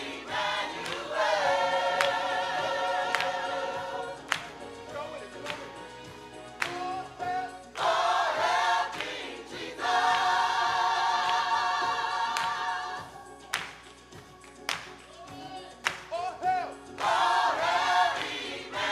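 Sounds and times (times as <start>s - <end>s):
gospel choir singing: 0.0s - 18.9s.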